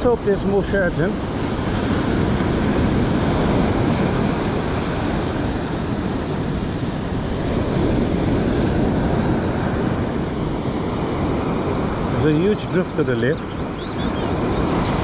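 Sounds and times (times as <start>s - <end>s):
surf breaking on beach: 0.0s - 13.4s
wind buffeting microphone: 0.0s - 15.0s.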